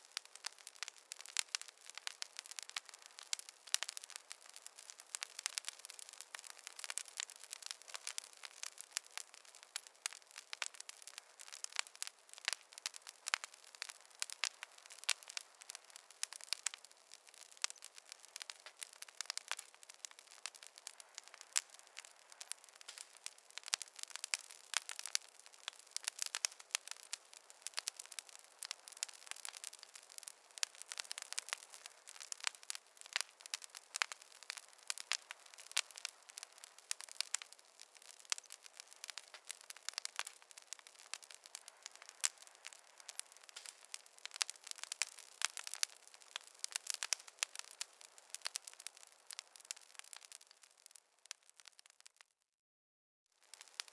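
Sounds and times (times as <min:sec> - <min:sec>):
campfire crackling: 0:00.0 - 0:52.3, 0:53.4 - 0:53.9.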